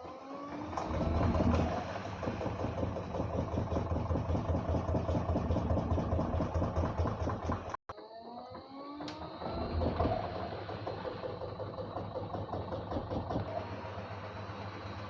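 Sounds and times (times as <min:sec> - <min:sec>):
washing machine humming: 0:00.0 - 0:15.0
washing machine motor whine: 0:00.0 - 0:15.0.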